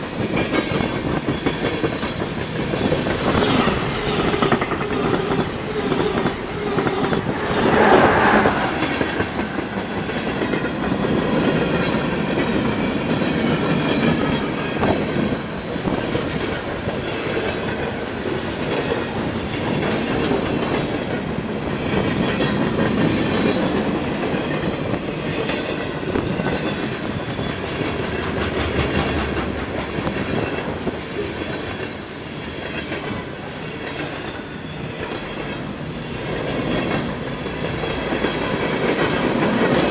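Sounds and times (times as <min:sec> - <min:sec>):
train rumble: 0:00.0 - 0:39.9
train wheels clicking over rails: 0:00.0 - 0:39.9.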